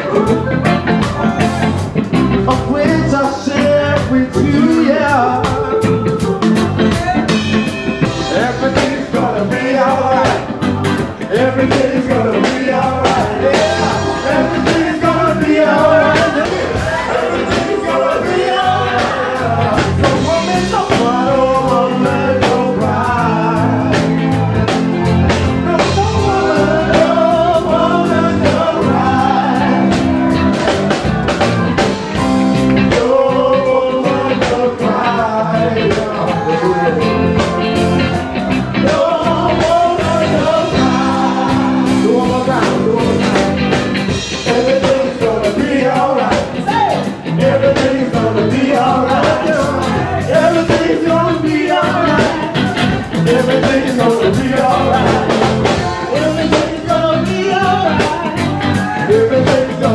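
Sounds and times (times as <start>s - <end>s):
drum kit steady beat: 0.0s - 59.9s
electric guitar: 0.0s - 59.9s
keyboard: 0.0s - 59.9s
man singing: 0.0s - 59.9s.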